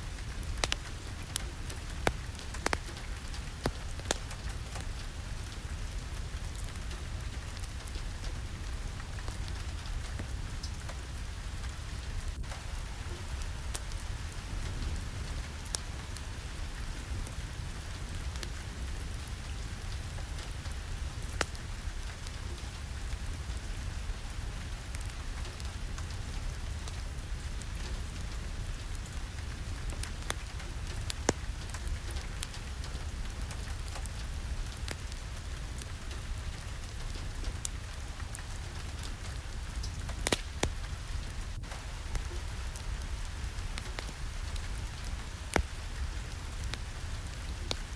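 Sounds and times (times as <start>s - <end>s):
deep constant rumble: 0.0s - 47.9s
steady rainfall: 0.0s - 47.9s.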